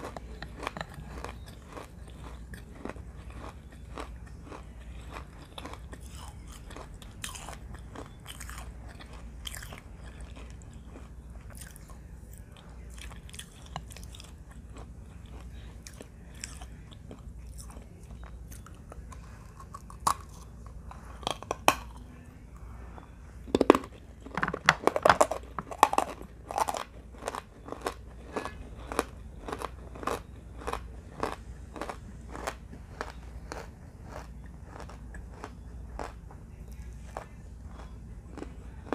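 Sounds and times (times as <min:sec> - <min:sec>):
crunching and chewing clay: 0:00.0 - 0:38.9.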